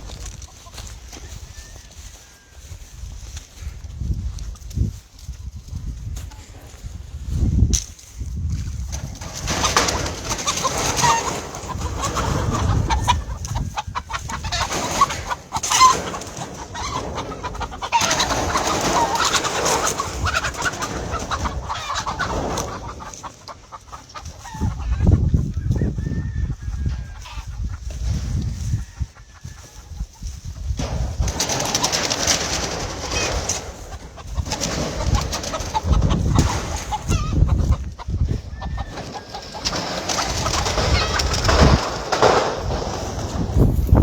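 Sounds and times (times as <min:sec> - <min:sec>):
chickens clucking and calling: 0:00.0 - 0:07.6, 0:08.2 - 0:44.0.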